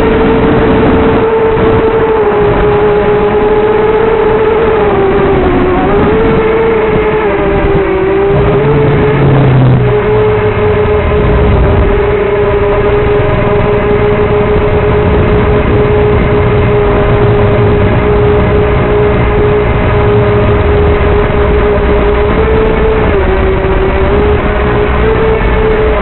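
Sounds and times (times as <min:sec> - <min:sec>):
quadcopter motors whining: 0:00.0 - 0:26.0.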